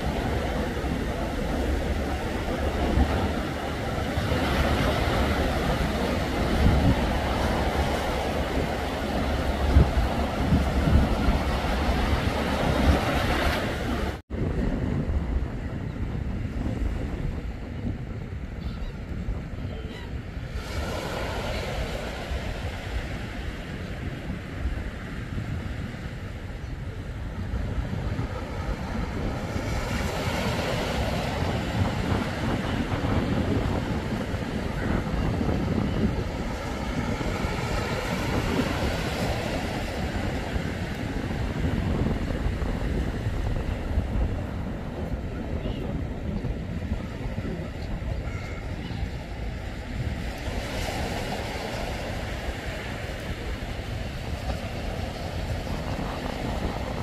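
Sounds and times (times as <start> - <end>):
small waves breaking on shore: 0.0 - 14.2, 20.2 - 57.0
wind rumbling on microphone: 0.0 - 57.0.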